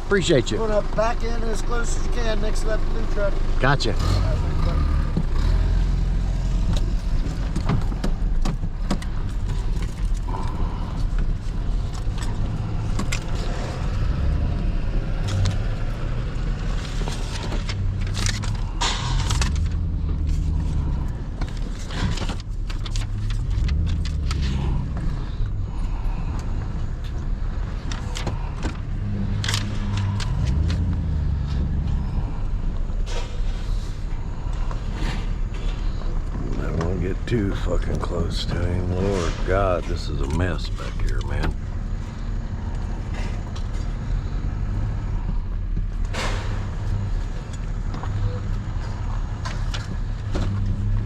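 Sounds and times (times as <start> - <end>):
truck engine running slowly: 0.0 - 51.0.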